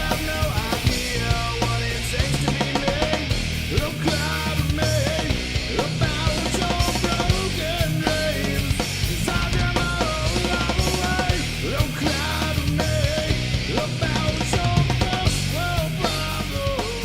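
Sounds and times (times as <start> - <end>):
hard rock music: 0.0 - 17.0.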